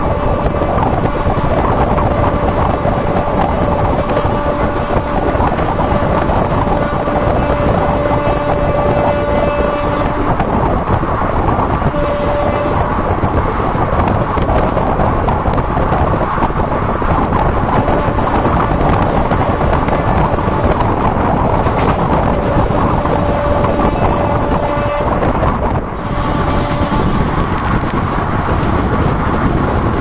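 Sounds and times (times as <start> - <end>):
train rumbling on track: 0.0 - 30.0
wind on microphone: 0.0 - 30.0.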